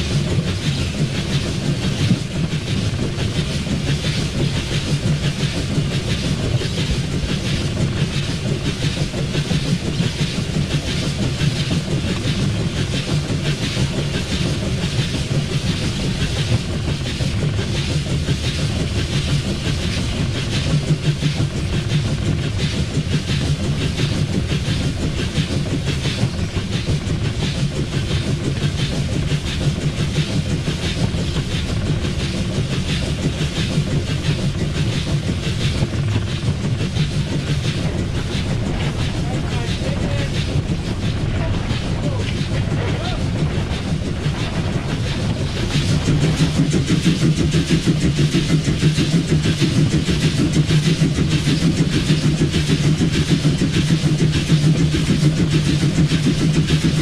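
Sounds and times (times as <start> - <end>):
steam locomotive rumble and clatter: 0.0 - 57.0.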